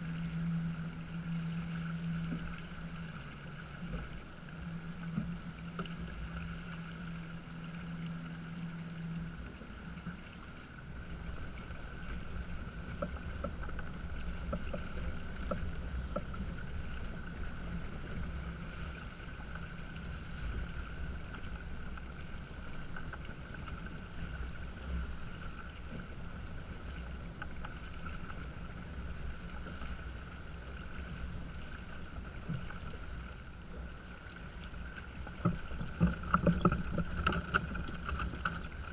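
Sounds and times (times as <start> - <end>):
faint ticks: 0.0 - 38.9
water rushing along hull: 0.0 - 38.9.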